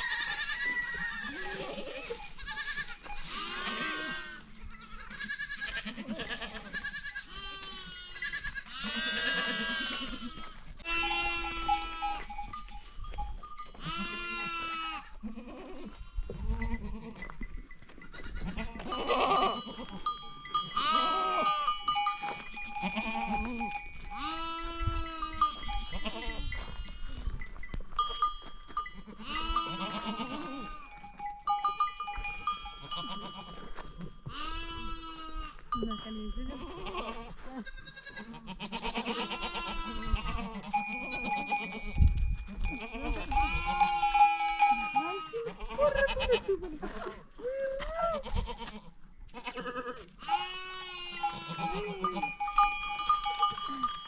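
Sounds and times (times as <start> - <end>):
livestock bell ringing: 0.0 - 9.6, 10.8 - 15.1, 16.5 - 38.1, 39.4 - 45.6, 48.7 - 54.0
goats bleating: 0.0 - 12.5, 13.8 - 17.4, 18.0 - 27.4, 28.8 - 47.3, 48.1 - 54.0.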